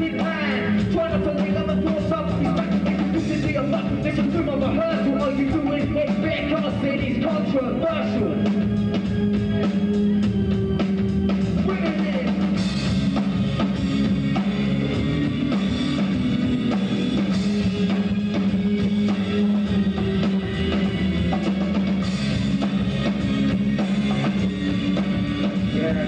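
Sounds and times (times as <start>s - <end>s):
drum kit beat: 0.0s - 26.0s
electric bass: 0.0s - 26.0s.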